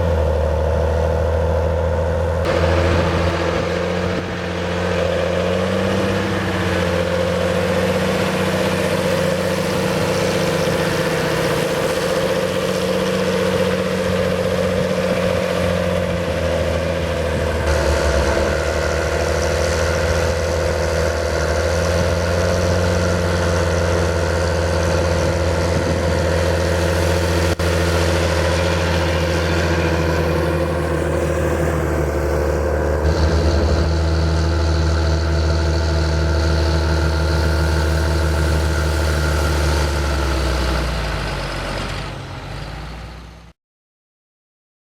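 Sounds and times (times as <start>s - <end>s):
tractor diesel engine running: 0.0s - 43.5s.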